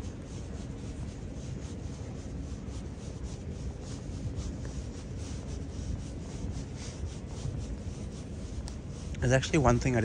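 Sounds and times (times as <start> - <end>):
station ambience rumble: 0.0 - 10.0.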